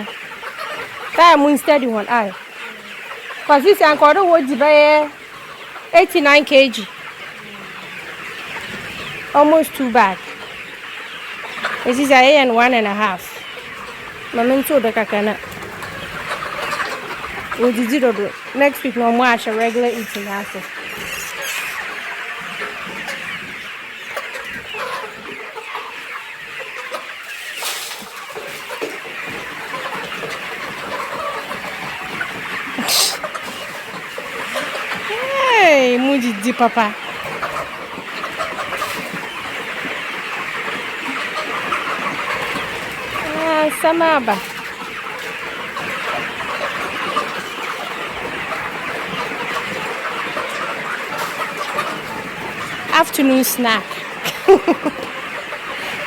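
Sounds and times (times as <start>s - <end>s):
chickens clucking and chirping: 0.0s - 56.0s.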